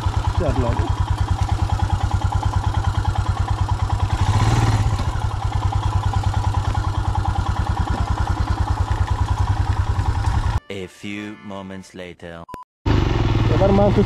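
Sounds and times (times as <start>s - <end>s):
motorcycle engine idling: 0.0s - 10.6s, 12.9s - 14.0s.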